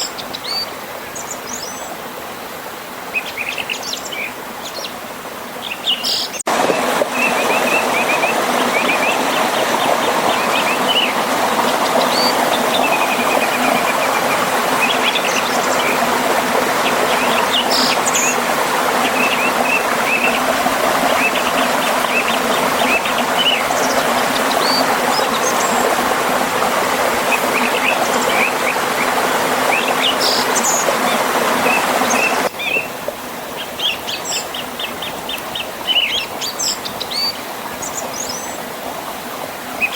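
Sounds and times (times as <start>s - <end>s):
birds chirping and trilling: 0.0s - 2.0s, 3.1s - 5.0s, 5.6s - 26.0s, 27.2s - 38.8s
river and waterfall rushing: 0.0s - 39.9s.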